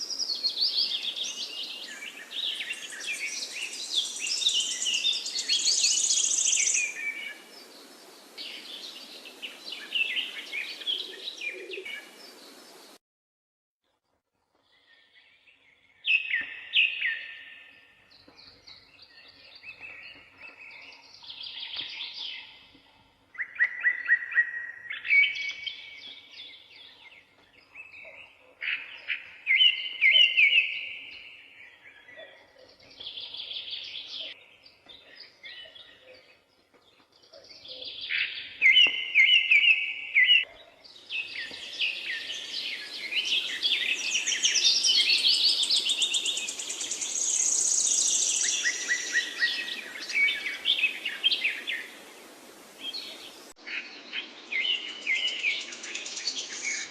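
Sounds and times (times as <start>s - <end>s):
songbirds chirping and trilling: 0.0s - 13.0s, 14.5s - 56.9s.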